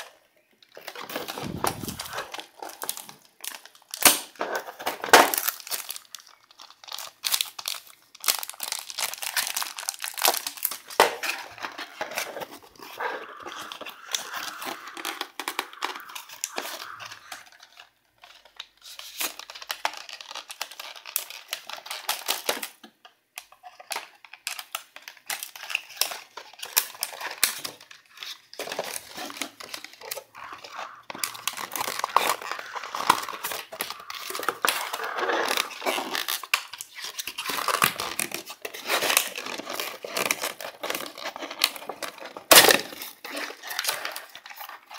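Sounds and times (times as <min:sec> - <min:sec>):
cardboard packaging crinkling and tearing: 0:00.0 - 0:44.9.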